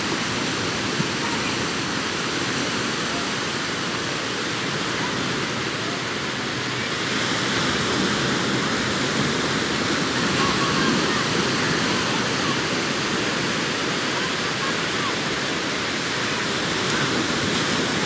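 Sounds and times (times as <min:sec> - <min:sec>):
sea surf breaking: 0:00.0 - 0:18.0.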